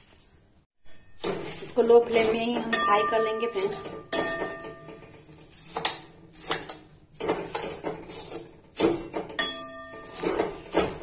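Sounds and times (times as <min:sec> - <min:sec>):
ladle scraping metal pan: 0:00.8 - 0:11.0.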